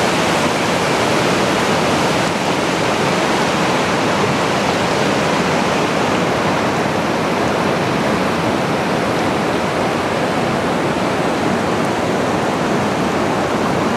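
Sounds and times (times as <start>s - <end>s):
river rushing over rapids: 0.0s - 13.9s.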